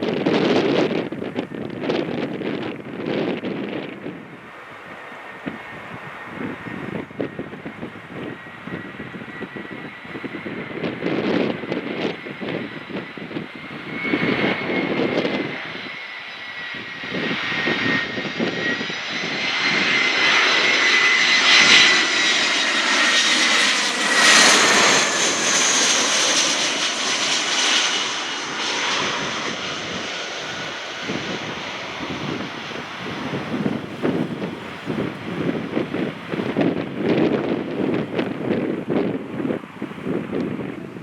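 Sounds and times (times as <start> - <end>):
airliner engines whining: 0.0 - 41.0
rush of jet noise: 0.0 - 41.0
wind buffeting microphone: 0.0 - 41.0.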